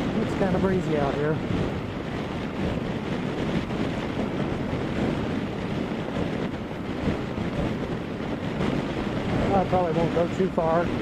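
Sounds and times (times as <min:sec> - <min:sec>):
wind rushing over helmet: 0:00.0 - 0:11.0.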